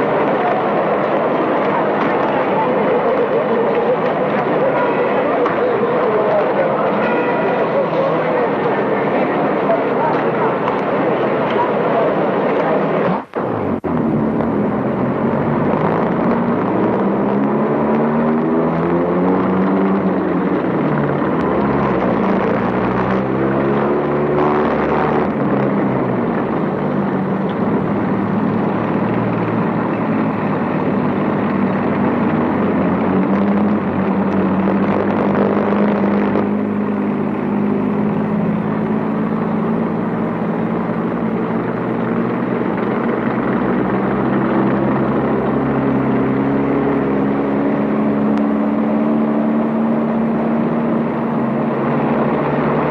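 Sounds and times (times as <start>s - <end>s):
vehicle engines droning: 0.0s - 52.9s.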